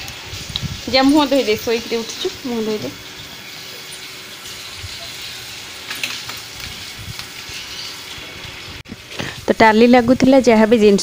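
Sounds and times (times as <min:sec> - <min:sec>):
hose spraying water on concrete: 0:00.0 - 0:11.0.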